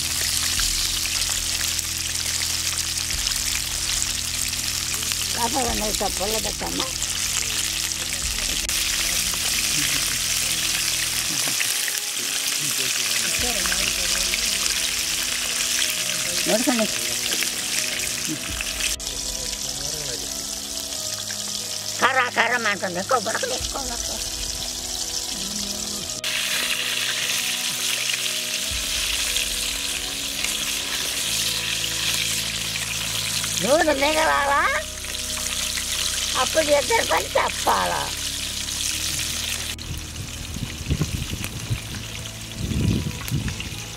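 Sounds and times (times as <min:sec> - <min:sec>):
oil sizzling while deep-frying: 0:00.0 - 0:43.9.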